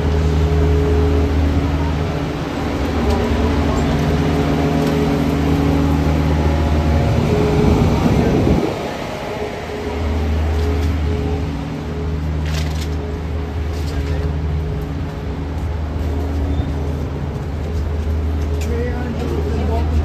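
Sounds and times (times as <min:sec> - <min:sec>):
large vehicle engine hum: 0:00.0 - 0:20.0
vehicle passing: 0:00.0 - 0:20.0.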